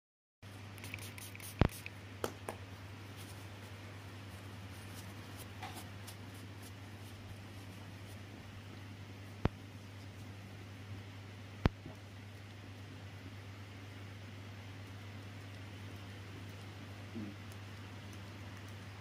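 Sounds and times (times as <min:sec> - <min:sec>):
steady low hum: 0:00.4 - 0:19.0.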